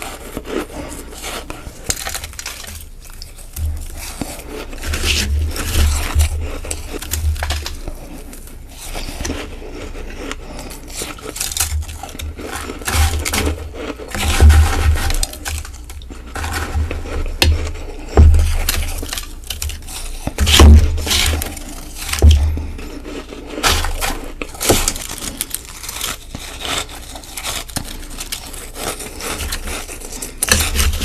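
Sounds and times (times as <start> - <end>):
ice being chewed: 0.0 - 31.0.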